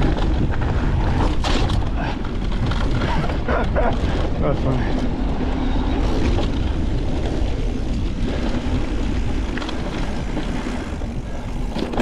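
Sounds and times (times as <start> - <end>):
bike rattles: 0.0 - 12.0
tyres running over dirt: 0.0 - 12.0
wind buffeting microphone: 0.0 - 12.0.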